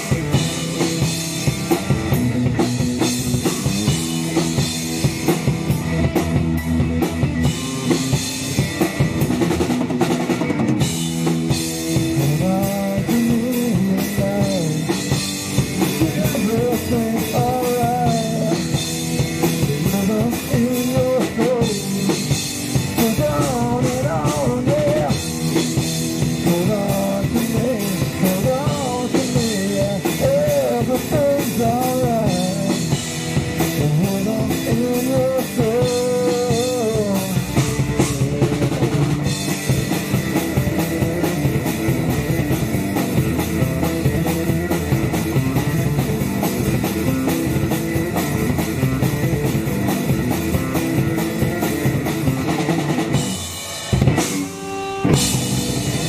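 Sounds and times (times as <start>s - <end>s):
drum kit with cymbals: 0.0s - 56.0s
electric guitar: 0.0s - 56.0s.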